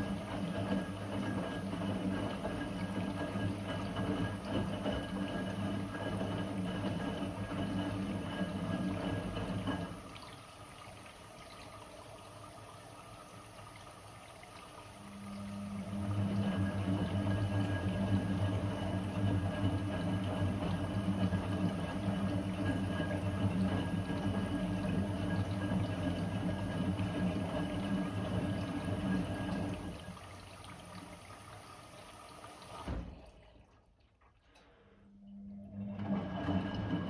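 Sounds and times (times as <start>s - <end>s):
washing machine hum: 0.0s - 37.0s.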